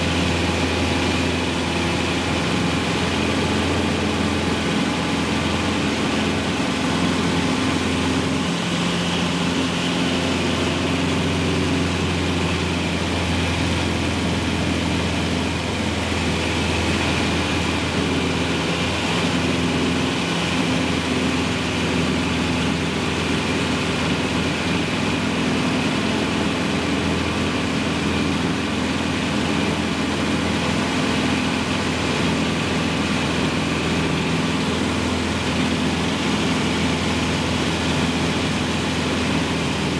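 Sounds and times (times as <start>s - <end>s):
airplane engine humming in cabin: 0.0s - 39.9s.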